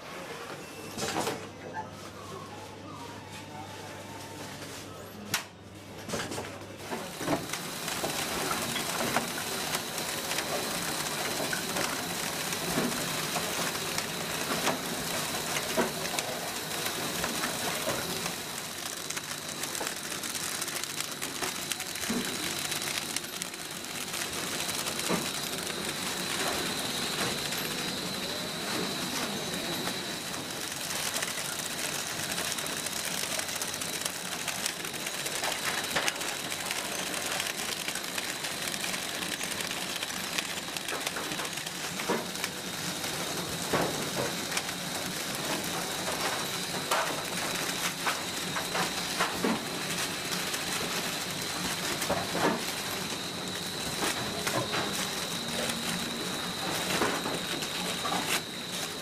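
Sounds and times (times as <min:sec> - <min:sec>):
machine hiss with high whine: 0:06.9 - 0:59.0.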